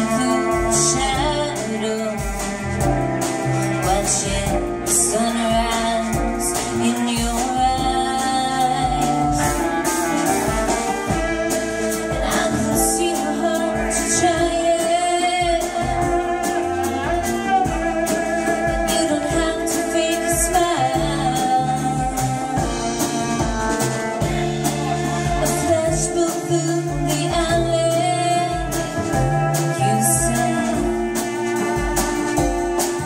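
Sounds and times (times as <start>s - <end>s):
live band with drums: 0.0s - 33.0s
woman singing lead: 0.0s - 33.0s.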